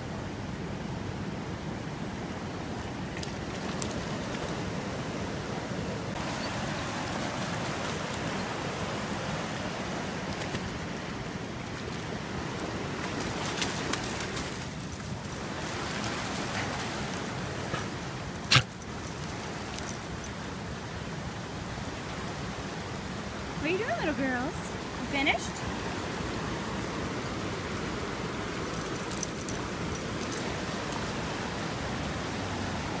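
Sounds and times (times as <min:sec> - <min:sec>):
creek rushing over shallows: 0:00.9 - 0:33.0.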